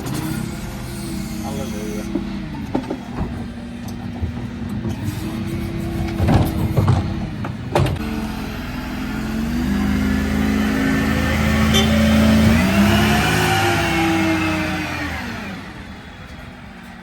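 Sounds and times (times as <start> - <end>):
refuse lorry diesel engine running: 0.0 - 17.0.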